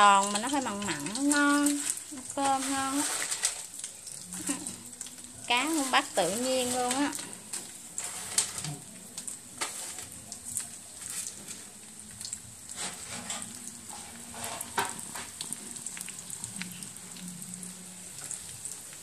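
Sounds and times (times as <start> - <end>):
chopsticks stirring fish: 0.0 - 8.9, 9.6 - 11.8, 12.7 - 19.0
fish sizzling in hot oil: 0.0 - 19.0.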